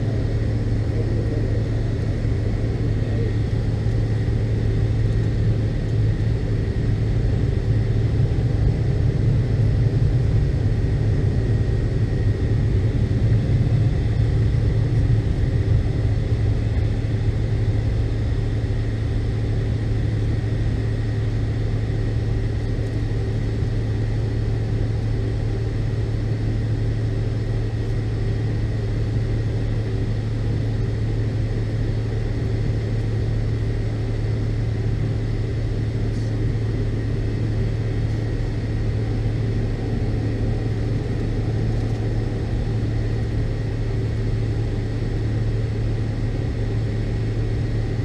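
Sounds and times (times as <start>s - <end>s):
airliner cabin engine drone: 0.0s - 48.0s.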